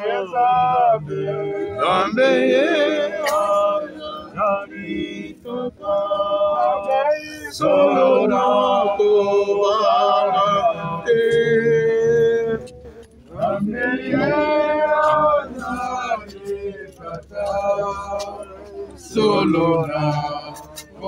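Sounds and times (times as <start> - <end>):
voices singing together: 0.0 - 21.0.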